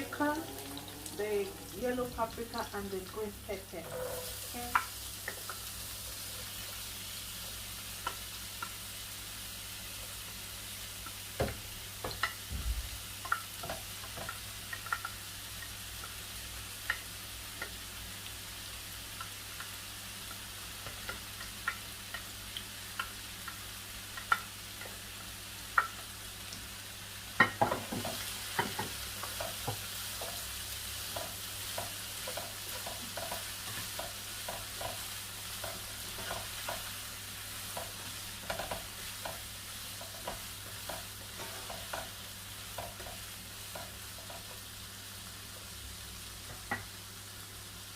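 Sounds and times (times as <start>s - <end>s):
vegetables sizzling in oil: 0.0s - 47.9s.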